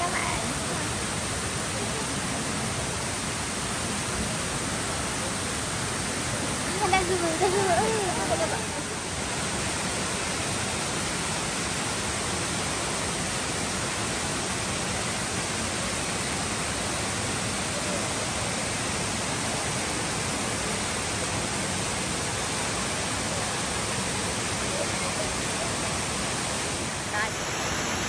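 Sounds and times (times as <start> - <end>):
flowing water rushing: 0.0 - 28.0.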